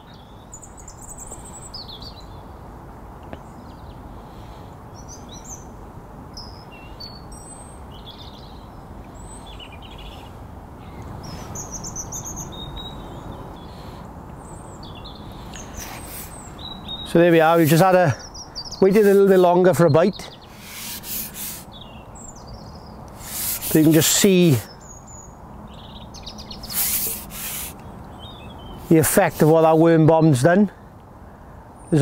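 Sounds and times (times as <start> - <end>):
small birds chirping: 0.0 - 2.6, 3.2 - 32.0
outdoor background hiss: 0.0 - 32.0.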